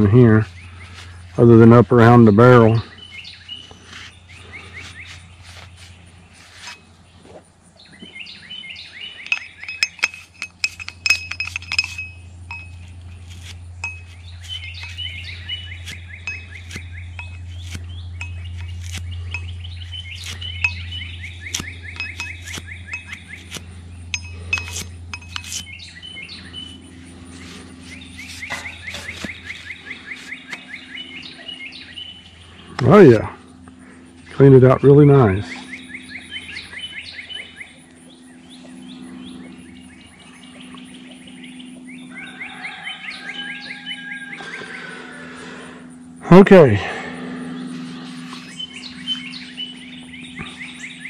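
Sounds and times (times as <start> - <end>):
birds trilling: 0.0 - 51.0.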